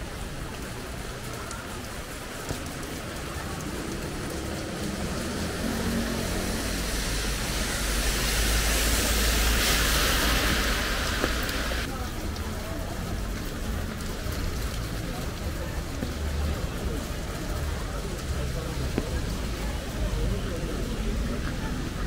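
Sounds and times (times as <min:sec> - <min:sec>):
steady rain: 0:00.0 - 0:22.0
vehicle on wet road: 0:00.0 - 0:22.0.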